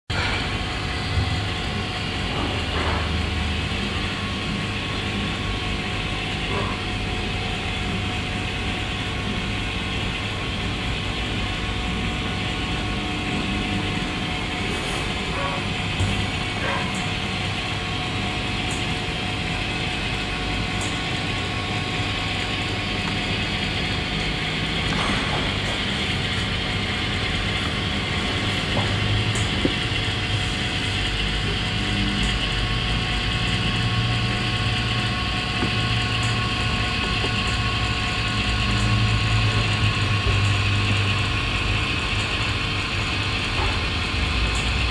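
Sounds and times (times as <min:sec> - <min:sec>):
diesel locomotive running: 0:00.1 - 0:44.9.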